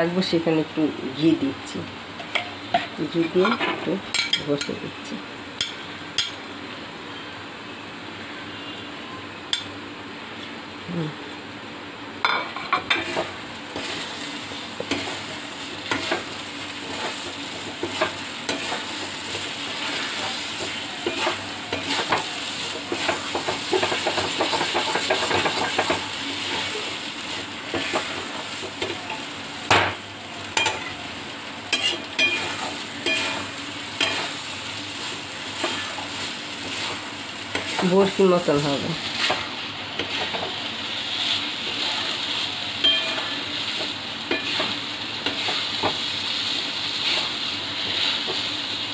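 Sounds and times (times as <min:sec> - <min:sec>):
faint sizzle: 0:00.0 - 0:48.9.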